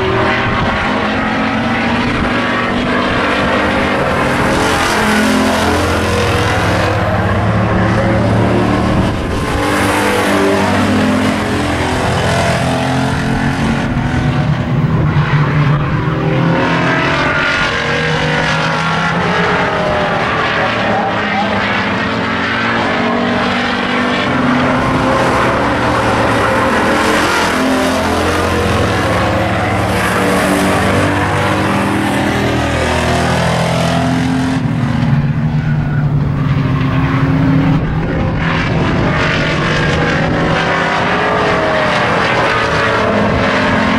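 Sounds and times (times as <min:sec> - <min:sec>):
race car engines: 0:00.0 - 0:43.9.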